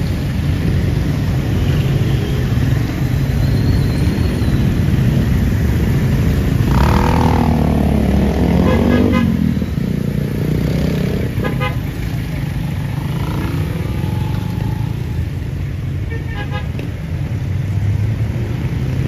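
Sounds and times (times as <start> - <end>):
motorcycle engines rumbling: 0.0 - 19.0
street traffic: 0.0 - 19.0.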